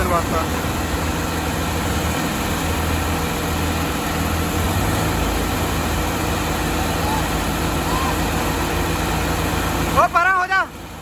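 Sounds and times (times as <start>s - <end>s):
tractor diesel engines droning: 0.0s - 11.0s.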